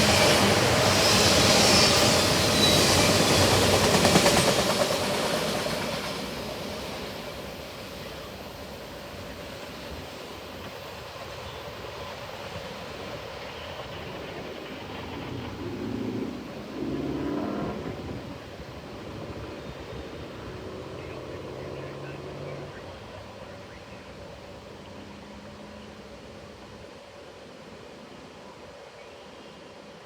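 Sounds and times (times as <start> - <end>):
freight train rolling past: 0.0 - 28.9.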